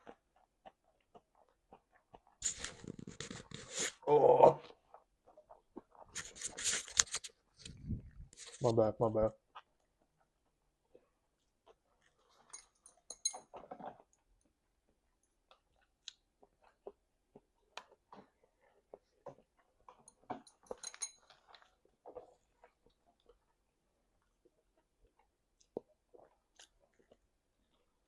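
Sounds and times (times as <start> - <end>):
person chewing with mouth open: 0.0 - 8.6, 9.4 - 28.0.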